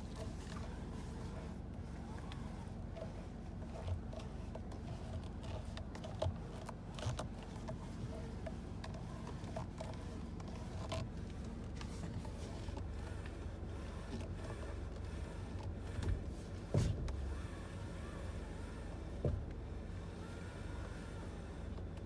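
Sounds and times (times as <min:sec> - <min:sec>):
steering clicks and scrapes: 0:00.0 - 0:22.0.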